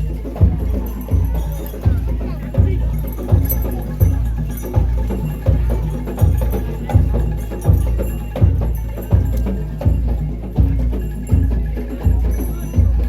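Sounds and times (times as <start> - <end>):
deep booming drum beat: 0.0 - 13.0.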